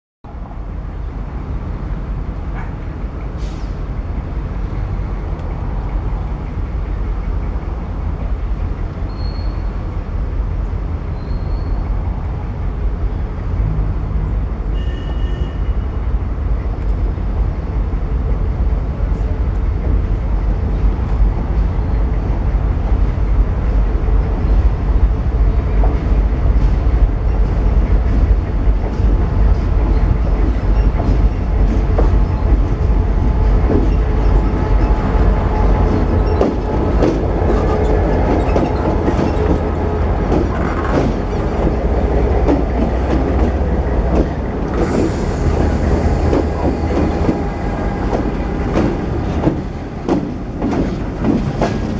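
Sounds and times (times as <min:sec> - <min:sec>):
diesel locomotives rumbling: 0:00.3 - 0:51.9.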